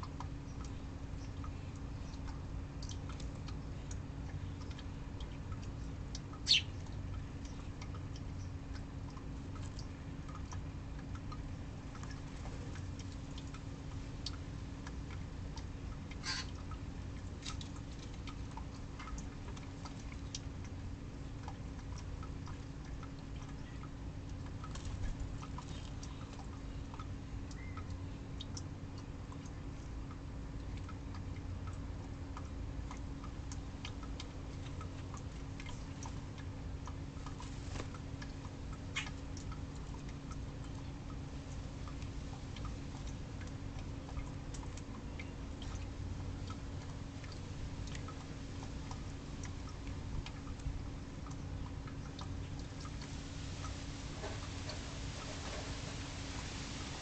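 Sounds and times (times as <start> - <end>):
faint clicks and ticks: 0.0 - 57.0
steady low hum: 0.0 - 57.0.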